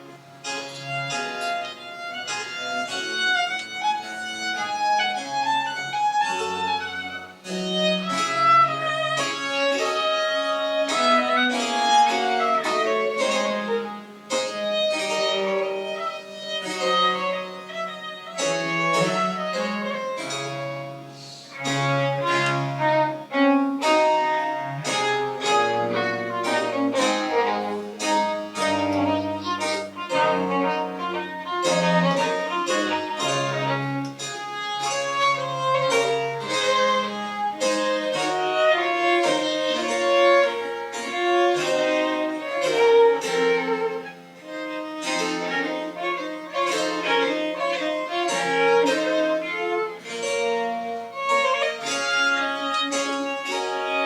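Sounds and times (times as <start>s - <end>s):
bowed string bass line: 0.0s - 54.0s
violin melody: 0.0s - 54.0s.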